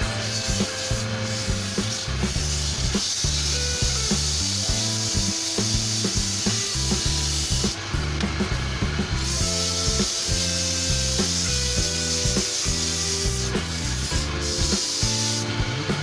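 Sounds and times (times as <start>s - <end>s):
background music with bass line: 0.0s - 16.0s.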